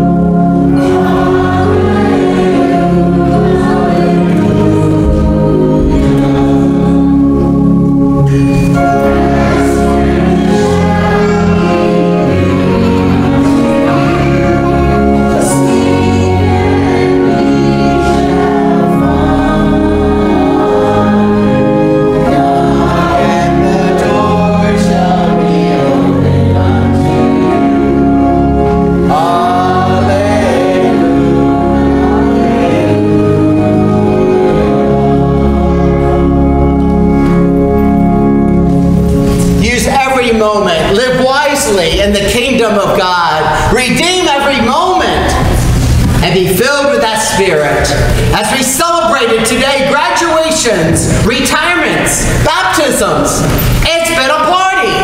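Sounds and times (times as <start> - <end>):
choir singing: 0.0 - 38.7, 39.6 - 46.2
organ: 0.0 - 55.0.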